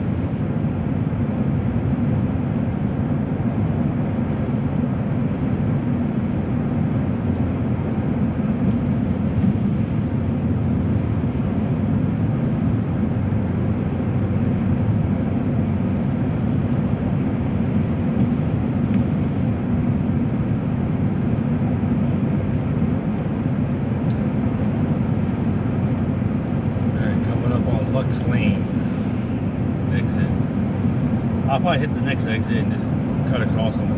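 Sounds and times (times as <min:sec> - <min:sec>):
car cabin road and engine noise: 0:00.0 - 0:33.9.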